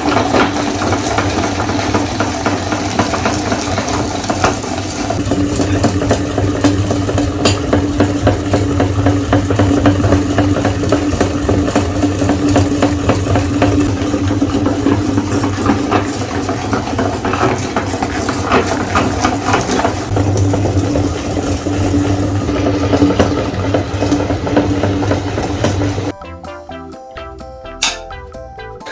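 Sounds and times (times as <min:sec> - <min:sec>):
cookies crackling in grinder: 0:00.0 - 0:26.1
meat grinder motor hum: 0:00.0 - 0:26.1.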